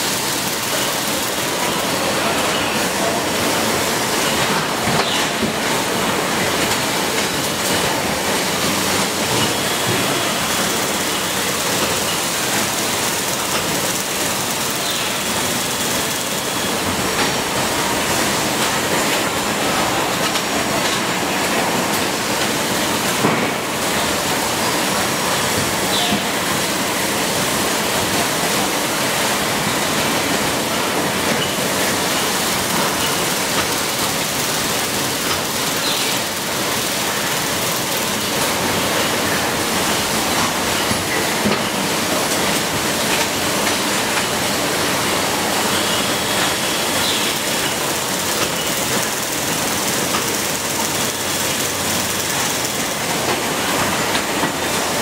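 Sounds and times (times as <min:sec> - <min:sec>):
assembly line machinery: 0:00.0 - 0:55.0.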